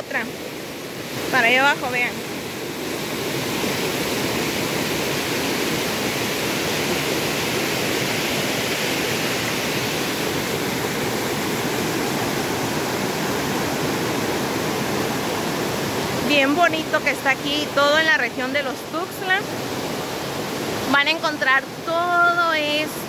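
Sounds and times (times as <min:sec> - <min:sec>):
river rushing over rocks: 0:00.1 - 0:23.0.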